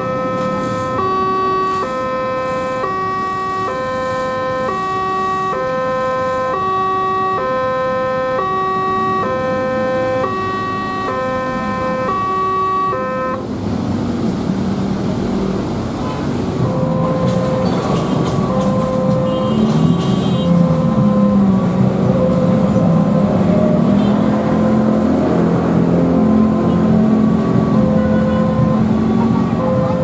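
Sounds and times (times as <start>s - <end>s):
two-tone electronic warning siren: 0.0s - 13.4s, 16.6s - 30.0s
road traffic noise: 0.0s - 30.0s.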